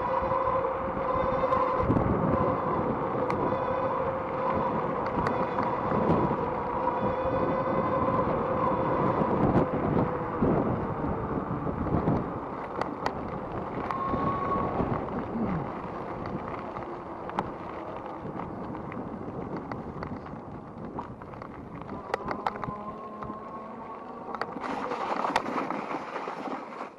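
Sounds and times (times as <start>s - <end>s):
electric motor whine: 0.0s - 19.1s, 21.8s - 25.4s
wind buffeting microphone: 0.0s - 26.6s
bike clicks and rattles: 0.0s - 26.9s.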